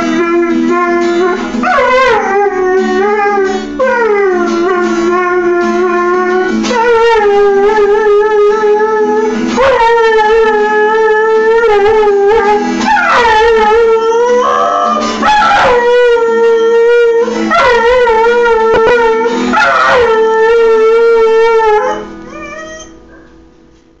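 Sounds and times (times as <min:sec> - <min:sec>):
dog howling: 0:00.0 - 0:23.3
strummed acoustic guitar: 0:00.0 - 0:23.9.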